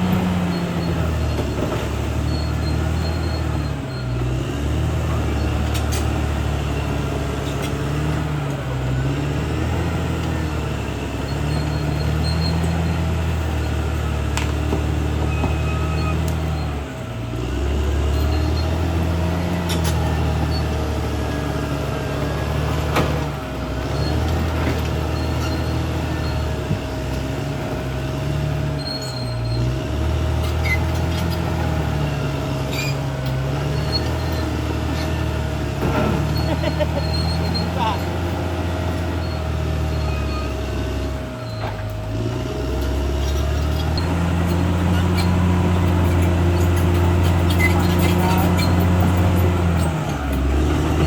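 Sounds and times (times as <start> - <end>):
bulldozer diesel engine working: 0.0 - 51.0.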